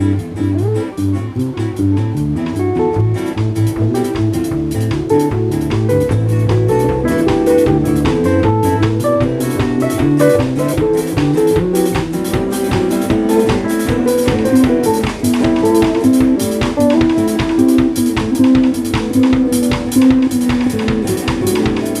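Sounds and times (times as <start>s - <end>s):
bass line: 0.0s - 22.0s
drum kit steady beat: 0.0s - 22.0s
electric guitar notes: 0.0s - 22.0s.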